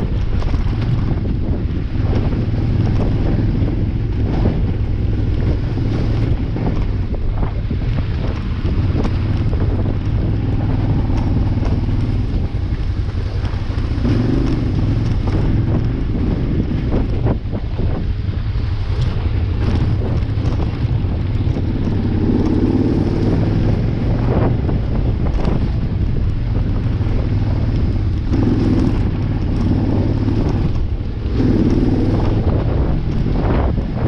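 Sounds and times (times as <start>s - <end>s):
motorcycle engine revving: 0.0s - 34.0s
wind rushing over microphone: 0.0s - 34.0s.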